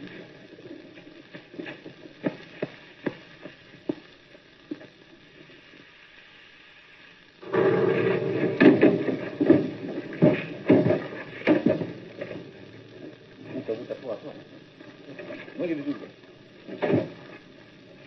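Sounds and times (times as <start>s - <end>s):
old film soundtrack hiss: 0.0s - 18.0s.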